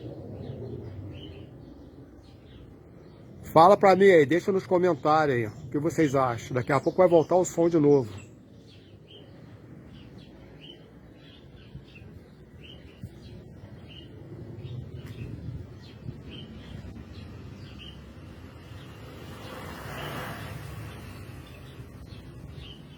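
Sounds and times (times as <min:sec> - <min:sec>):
bird chirping: 0:00.0 - 0:22.9.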